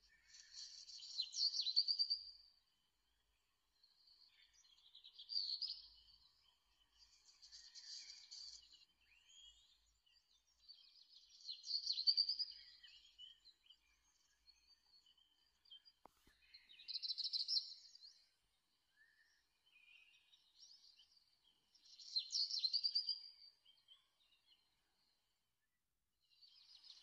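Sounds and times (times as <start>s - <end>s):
small birds chirping and trilling: 0.0s - 25.4s, 26.3s - 27.0s.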